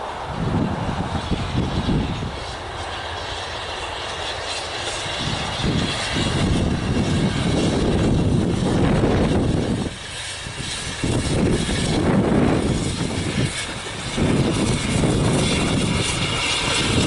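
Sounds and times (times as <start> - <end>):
steam locomotive working a train: 0.0 - 17.0
wind buffeting microphone: 0.0 - 17.0.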